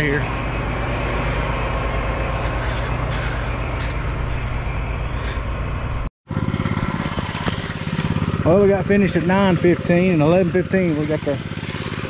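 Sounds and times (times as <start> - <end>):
diesel truck engine running: 0.0 - 12.0
engine with quick even beat: 0.0 - 12.0.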